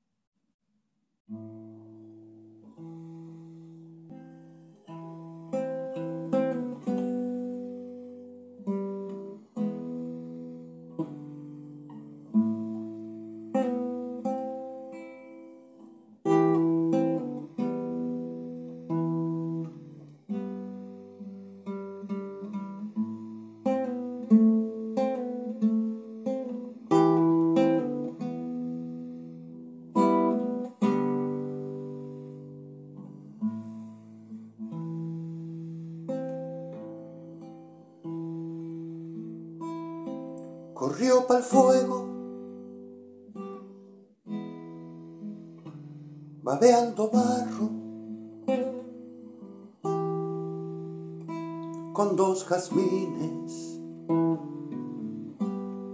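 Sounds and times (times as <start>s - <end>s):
classical guitar playing: 1.3s - 55.9s.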